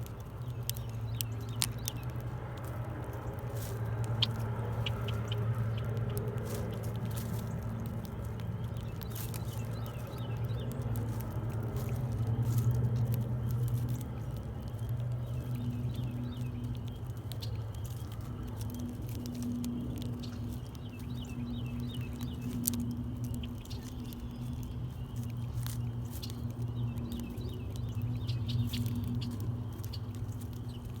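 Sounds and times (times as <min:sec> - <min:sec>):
animals tapping at bird feeder: 0:00.0 - 0:31.0
steady low hum: 0:00.0 - 0:31.0.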